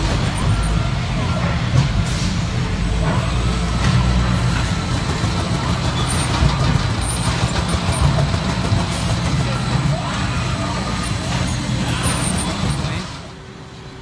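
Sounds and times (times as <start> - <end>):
machinery clicks and clatter: 0.0 - 13.5
conveyor machinery drone: 0.0 - 14.0.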